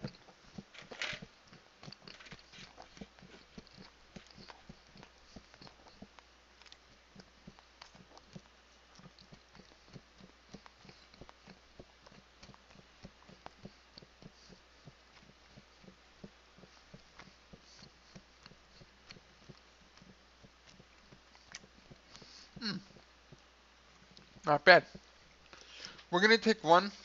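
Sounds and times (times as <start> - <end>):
faint chewing: 0.0 - 26.1.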